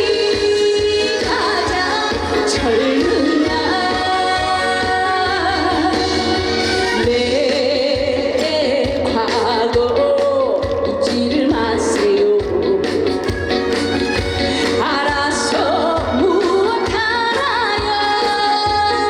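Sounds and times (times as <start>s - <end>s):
backing track with steady beat: 0.0s - 19.0s
woman singing: 0.0s - 19.0s.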